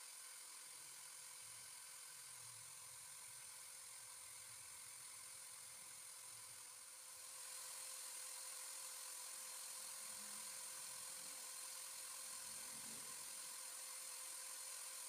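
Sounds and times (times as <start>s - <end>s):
electric drill motor whine: 0.0s - 15.0s.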